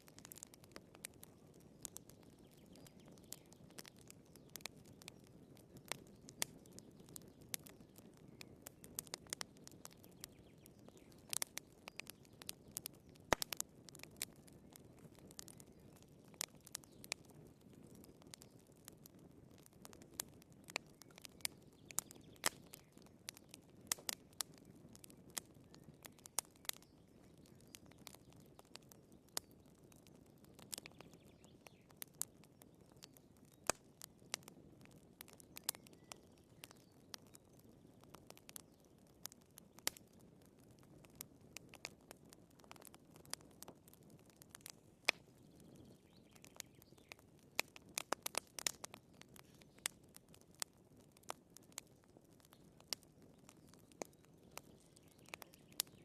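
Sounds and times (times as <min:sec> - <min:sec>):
hiss of burning logs: 0:00.0 - 0:56.0
wood fire crackling: 0:00.0 - 0:56.0.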